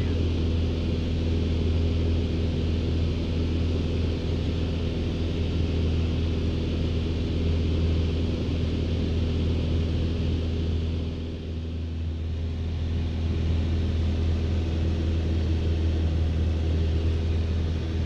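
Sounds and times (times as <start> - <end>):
airplane engine and propeller droning: 0.0 - 18.0.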